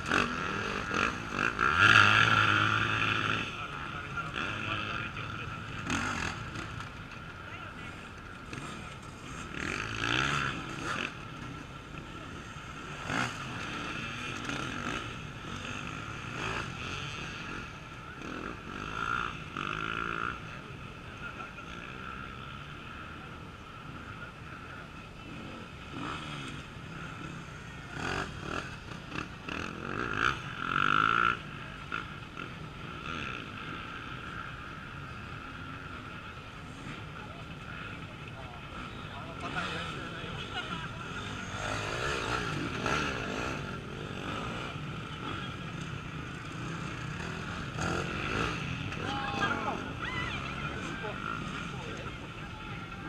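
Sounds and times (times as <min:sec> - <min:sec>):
distant engines: 0:00.0 - 0:53.0
motorcycles revving and passing: 0:00.0 - 0:53.0.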